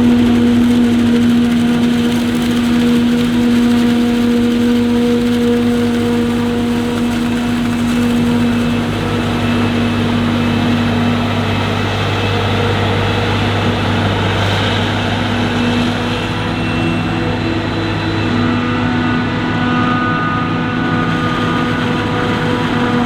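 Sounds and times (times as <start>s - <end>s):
diesel engines droning: 0.0s - 23.0s.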